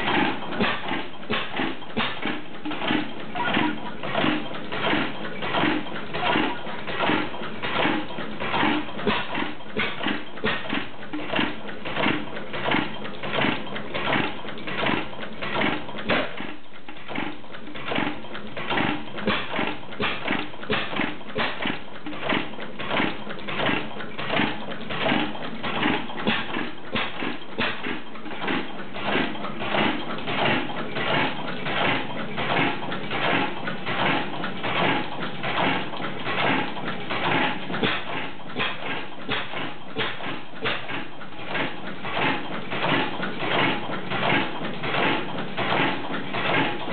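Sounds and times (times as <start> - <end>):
engine flywheels clattering: 0.0 - 46.9.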